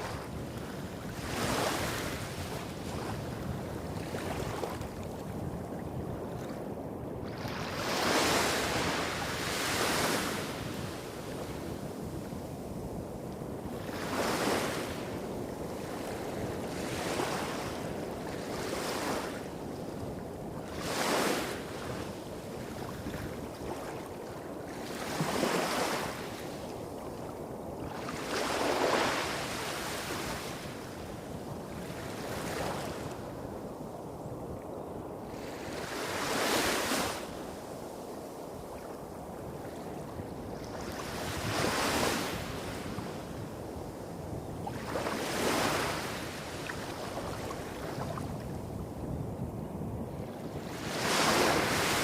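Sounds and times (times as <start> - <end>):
small waves breaking on beach: 0.0 - 34.2, 35.2 - 52.0.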